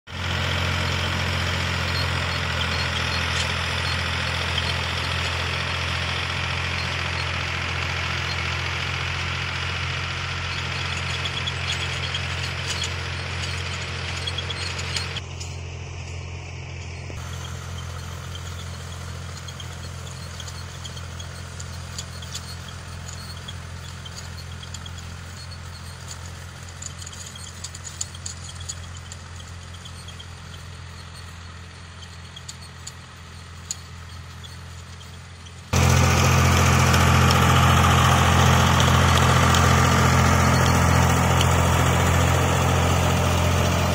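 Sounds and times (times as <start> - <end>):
tractor diesel engine running: 0.0 - 43.9
rotavator churning soil: 0.1 - 15.6, 17.2 - 43.9.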